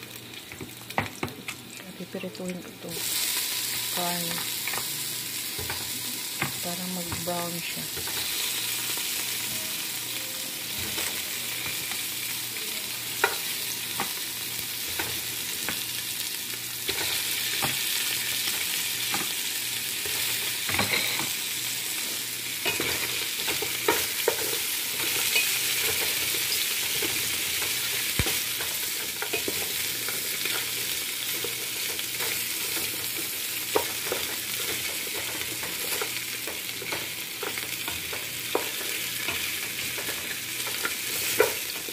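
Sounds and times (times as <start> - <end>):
meat sizzling in oil: 0.0 - 41.9.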